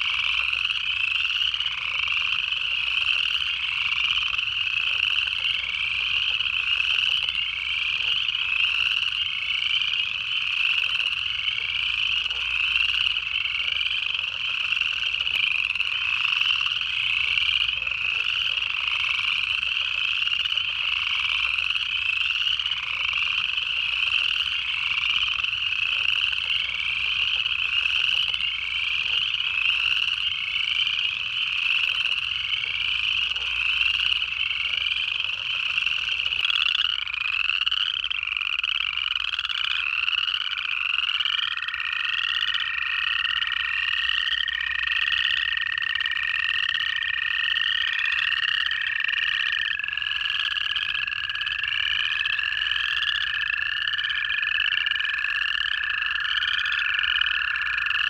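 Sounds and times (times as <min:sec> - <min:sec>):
chorus frogs trilling: 0:00.0 - 0:58.0.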